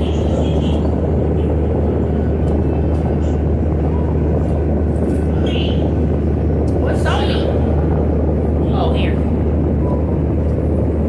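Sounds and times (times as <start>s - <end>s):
constant hum: 0.0s - 11.0s
loud low rumble: 0.0s - 11.0s.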